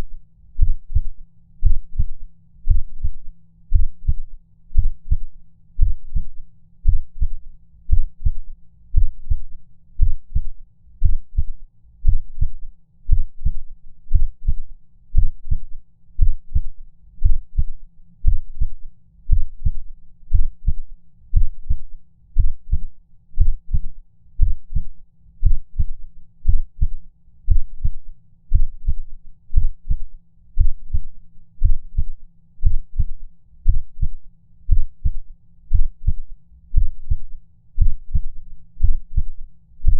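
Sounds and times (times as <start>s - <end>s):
human heartbeat thumps: 0.6s - 8.4s, 9.0s - 14.6s, 15.2s - 21.8s, 22.4s - 30.0s, 30.6s - 39.9s.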